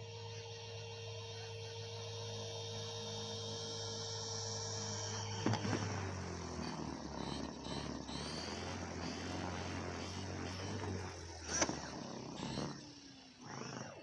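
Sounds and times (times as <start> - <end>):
toy helicopter motor humming: 0.0 - 14.0.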